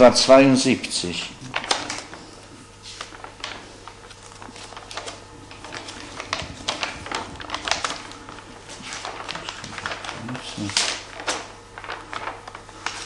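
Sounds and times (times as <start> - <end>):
low steady hum: 0.0 - 13.0
paper pages rustling: 1.1 - 13.0.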